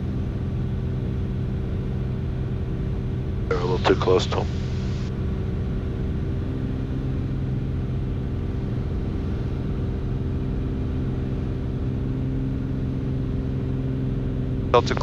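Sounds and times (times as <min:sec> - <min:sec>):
airplane engine and propeller droning: 0:00.0 - 0:15.0.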